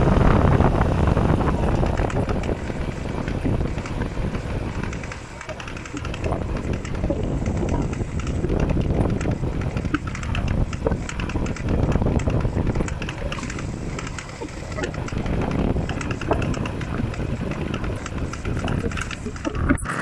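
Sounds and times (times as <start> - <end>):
clicking from scooter wheel: 0.0 - 20.0
scooter rolling noise: 0.0 - 20.0.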